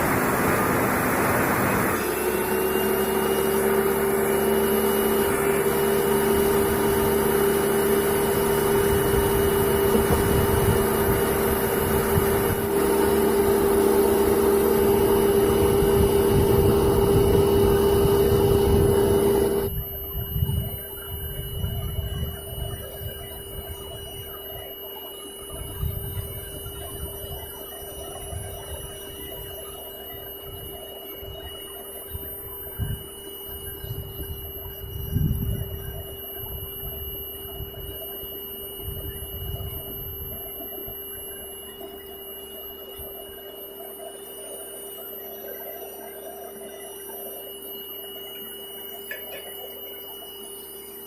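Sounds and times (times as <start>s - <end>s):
table saw whining: 0.0s - 51.0s.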